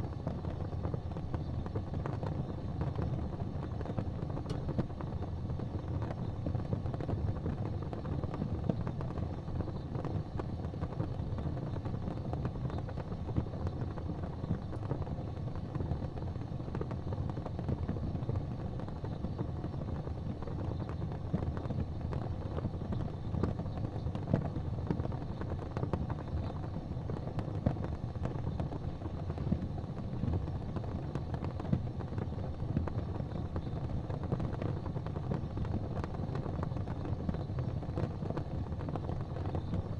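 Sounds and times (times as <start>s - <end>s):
wood fire burning: 0.0s - 39.9s.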